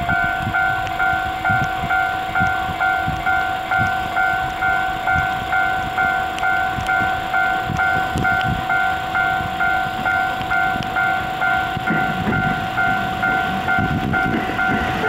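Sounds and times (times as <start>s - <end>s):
level crossing alarm ringing: 0.0s - 15.0s.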